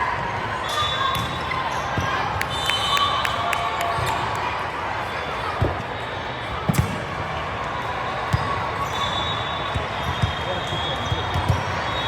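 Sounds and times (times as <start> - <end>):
voices and gym noise: 0.0 - 12.0.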